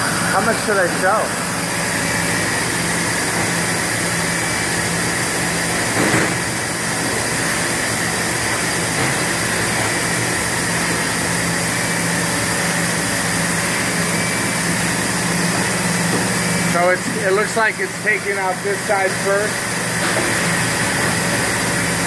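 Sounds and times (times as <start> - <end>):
machinery hum and hiss: 0.0 - 22.0.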